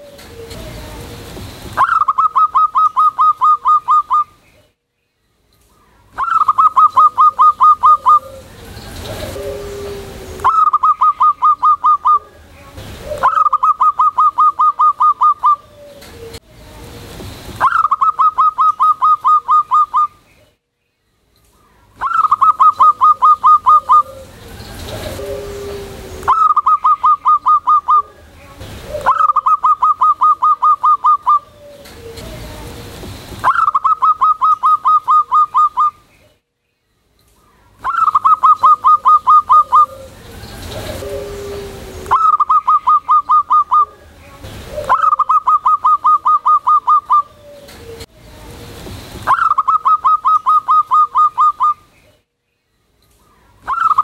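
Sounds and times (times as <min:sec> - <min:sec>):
dove cooing: 0:00.0 - 0:04.4, 0:06.2 - 0:16.4, 0:17.6 - 0:20.2, 0:22.0 - 0:36.0, 0:37.8 - 0:48.1, 0:49.3 - 0:51.8.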